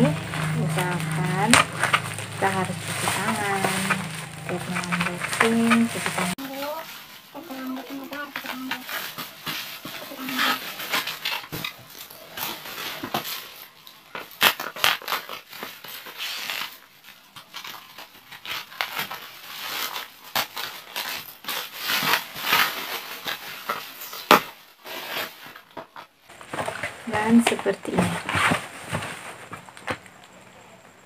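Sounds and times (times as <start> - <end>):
packaging crinkling and tearing: 0.0 - 30.4.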